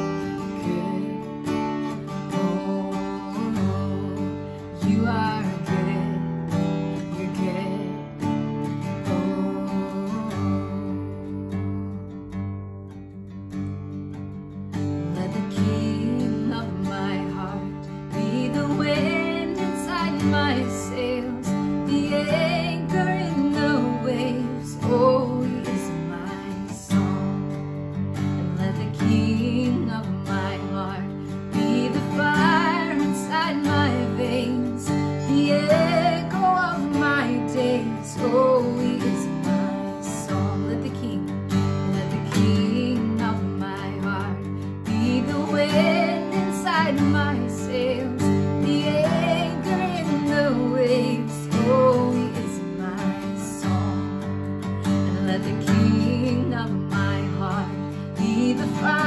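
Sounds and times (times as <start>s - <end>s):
woman singing: 0.0s - 13.0s, 14.2s - 59.0s
acoustic guitar strumming: 0.0s - 59.0s.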